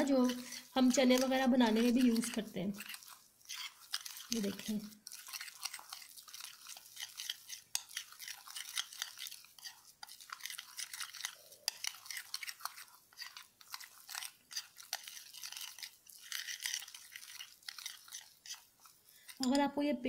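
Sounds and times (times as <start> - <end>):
spoon scraping paste in glass bowl: 0.0 - 20.0.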